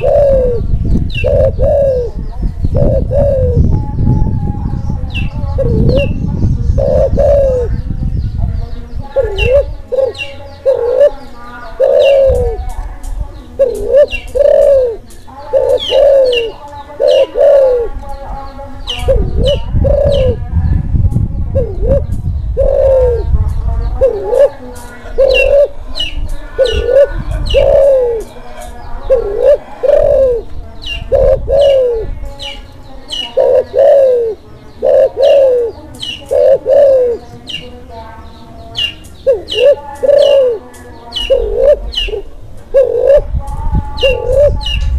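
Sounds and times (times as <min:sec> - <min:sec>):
dove cooing: 0:00.0 - 0:07.9, 0:09.0 - 0:20.5, 0:21.5 - 0:37.8, 0:38.5 - 0:44.9.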